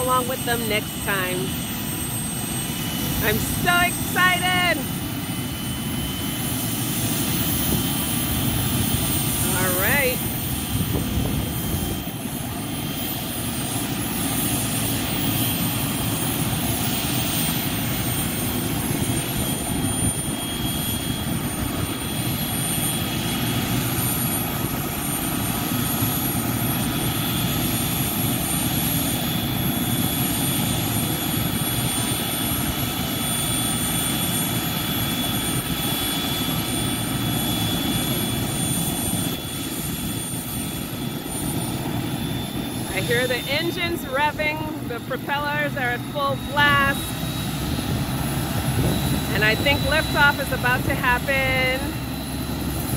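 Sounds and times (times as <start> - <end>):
helicopter turbine and rotors: 0.0 - 52.9
high turbine whine: 0.0 - 52.9.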